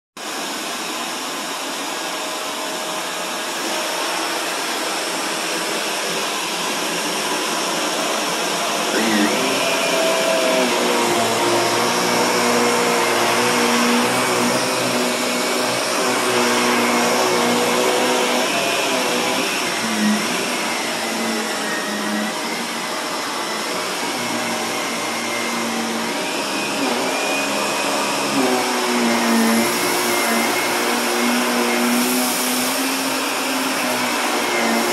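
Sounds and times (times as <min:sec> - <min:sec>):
vacuum cleaner running: 0:00.2 - 0:34.9.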